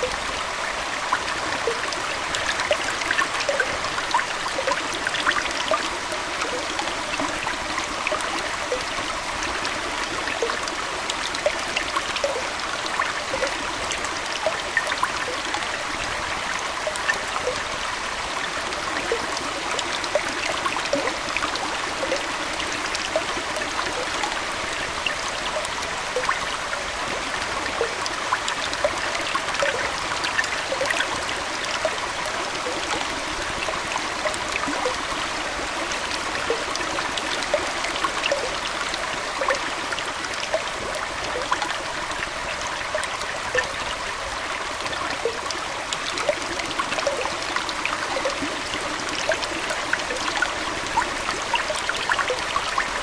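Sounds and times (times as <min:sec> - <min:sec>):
aquarium water flowing: 0:00.0 - 0:53.0
small water plops and droplets: 0:00.0 - 0:53.0.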